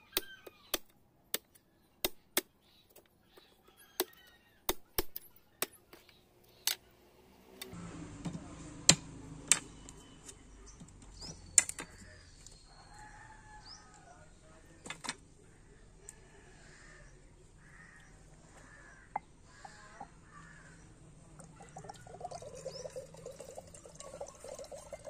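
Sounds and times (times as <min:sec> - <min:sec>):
background noise: 0:00.0 - 0:25.0.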